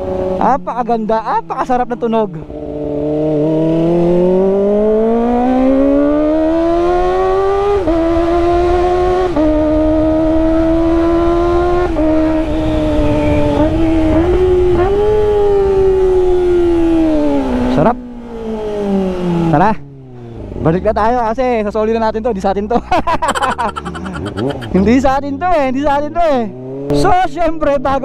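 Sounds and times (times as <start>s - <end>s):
motorcycle engine accelerating hard: 0.0s - 0.6s, 2.4s - 21.6s, 23.2s - 27.2s.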